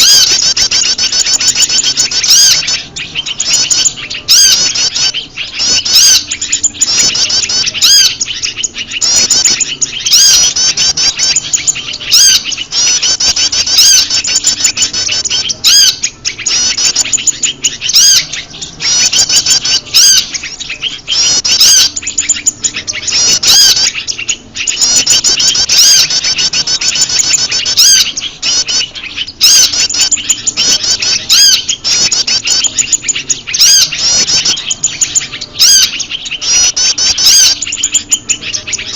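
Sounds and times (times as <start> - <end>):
rapid high bird chirping: 0.0 - 38.9.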